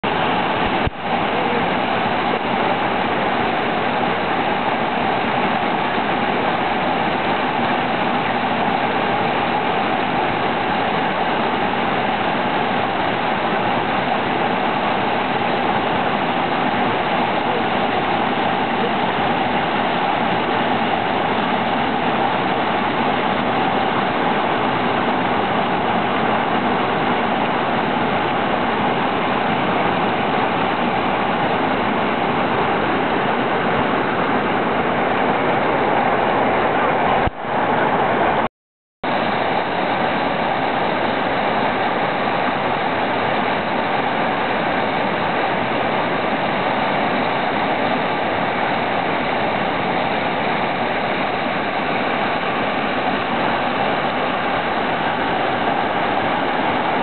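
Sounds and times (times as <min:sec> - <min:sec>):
river rapids rushing: 0:00.0 - 0:38.5, 0:39.1 - 0:57.0.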